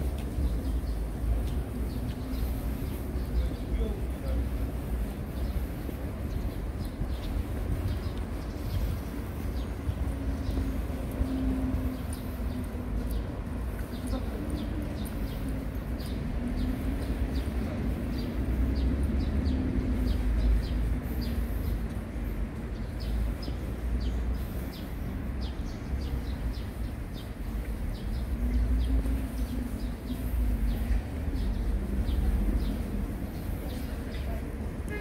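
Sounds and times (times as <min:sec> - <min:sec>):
low traffic rumble: 0:00.0 - 0:35.0.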